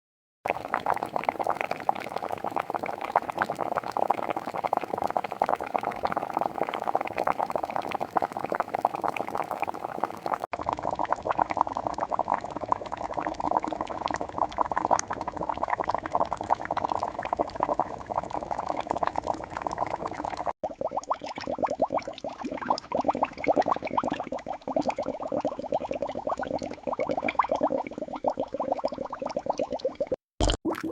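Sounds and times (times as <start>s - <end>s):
liquid bubbling: 0.5s - 30.9s.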